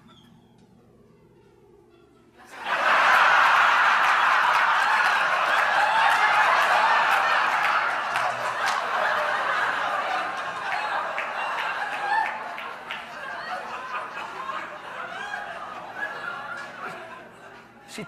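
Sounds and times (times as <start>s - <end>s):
audience laughing: 2.4s - 18.0s.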